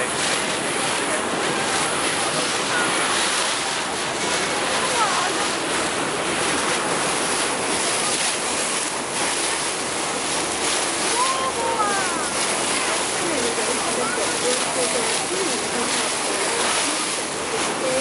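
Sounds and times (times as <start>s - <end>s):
faint voices: 0.0s - 18.0s
water rushing: 0.0s - 18.0s
wind: 0.0s - 18.0s.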